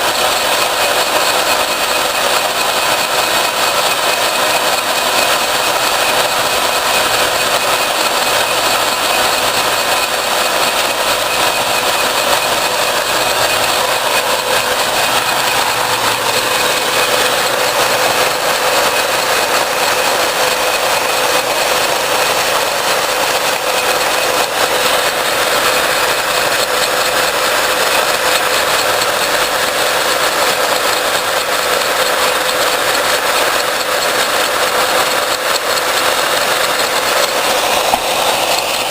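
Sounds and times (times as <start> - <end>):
electric drill boring steel whine: 0.0 - 38.9.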